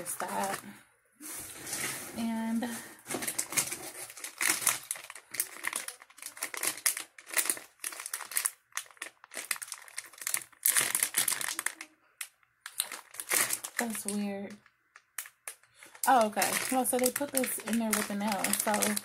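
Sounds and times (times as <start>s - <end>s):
plastic pouches crinkling: 0.0s - 0.8s, 1.4s - 19.0s.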